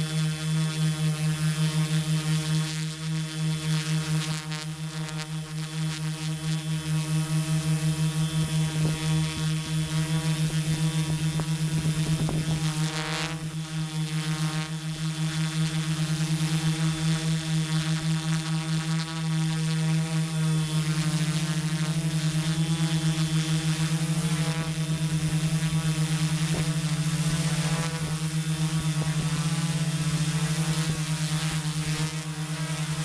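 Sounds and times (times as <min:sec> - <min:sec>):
drone motors humming: 0:00.0 - 0:33.0.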